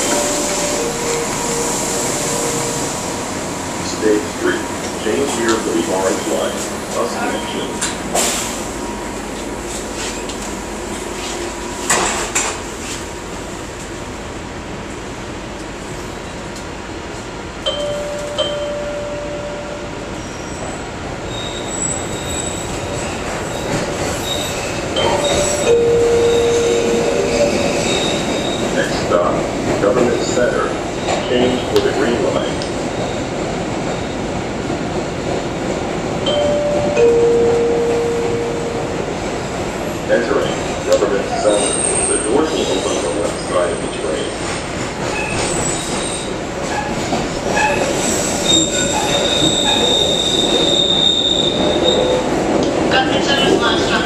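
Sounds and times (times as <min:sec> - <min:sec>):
subway car rumble and hiss: 0:00.0 - 0:54.0.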